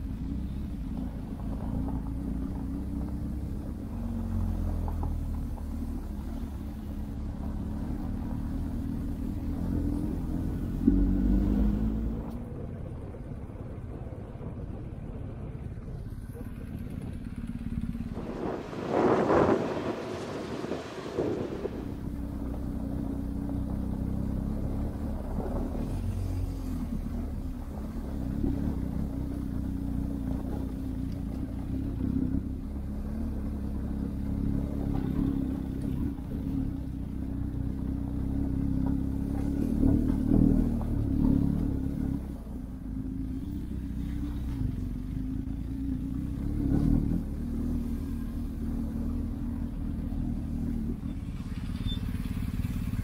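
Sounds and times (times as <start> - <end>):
muffled motorcycle engine: 0.0 - 53.0.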